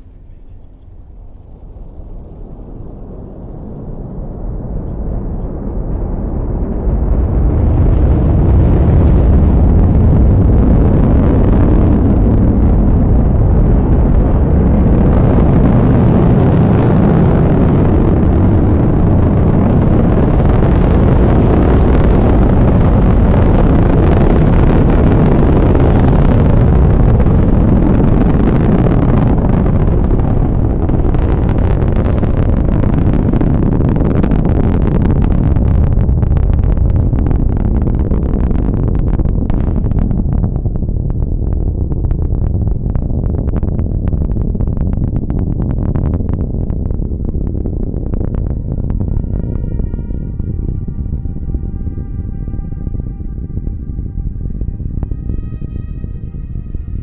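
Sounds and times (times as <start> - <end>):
rocket engines rumbling: 0.0 - 57.0.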